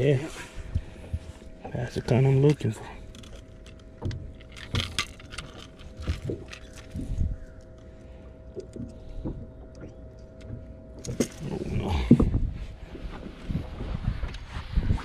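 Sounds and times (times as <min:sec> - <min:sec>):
electric trolling motor humming: 0:00.5 - 0:12.8.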